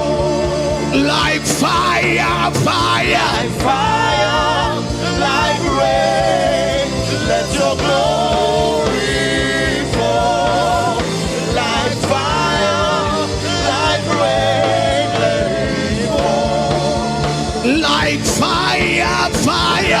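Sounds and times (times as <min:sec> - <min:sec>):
instrumental backing: 0:00.0 - 0:20.0.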